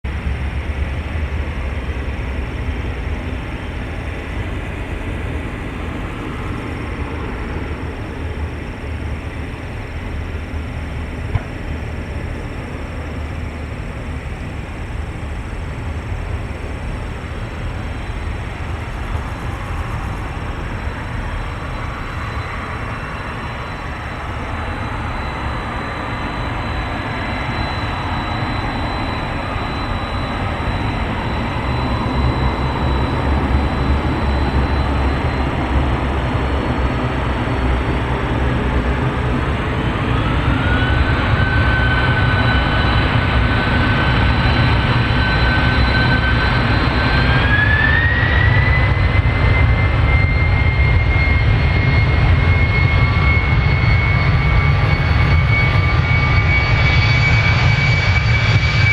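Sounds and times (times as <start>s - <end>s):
rising jet engine whine: 0.0s - 58.9s
jet engines spooling up: 0.1s - 58.9s.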